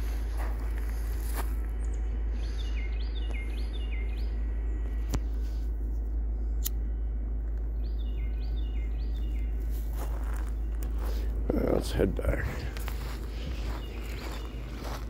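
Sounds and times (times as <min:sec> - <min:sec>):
songbird chirping: 0:00.0 - 0:15.0
steady low rumble: 0:00.0 - 0:15.0.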